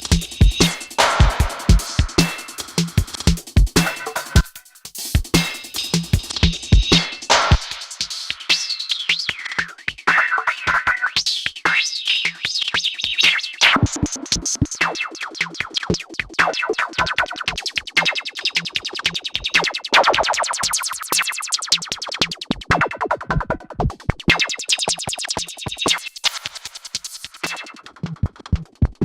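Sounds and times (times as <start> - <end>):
drum machine kick beat: 0.0 - 11.9, 13.6 - 18.1, 18.7 - 29.0.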